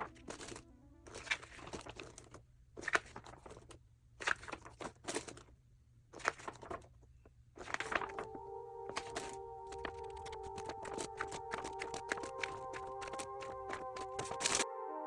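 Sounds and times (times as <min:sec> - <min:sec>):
packaging crinkling and rustling: 0:00.0 - 0:05.5, 0:06.2 - 0:14.6.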